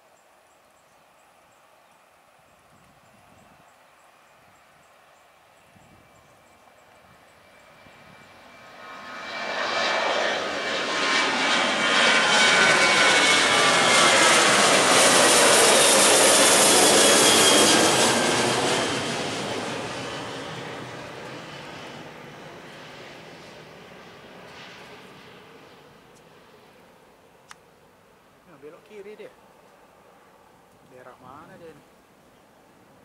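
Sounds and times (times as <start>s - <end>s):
jet engines passing overhead: 2.3s - 33.0s.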